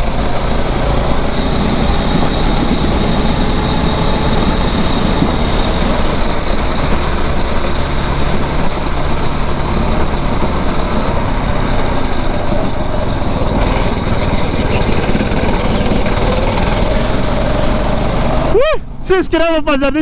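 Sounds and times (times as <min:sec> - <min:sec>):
kart engine running: 0:00.0 - 0:19.3.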